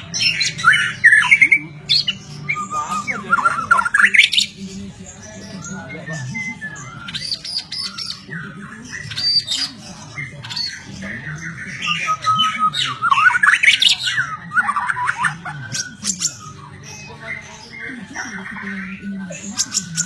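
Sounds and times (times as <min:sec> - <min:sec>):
bird singing whistles: 0:00.1 - 0:04.6, 0:05.5 - 0:17.8.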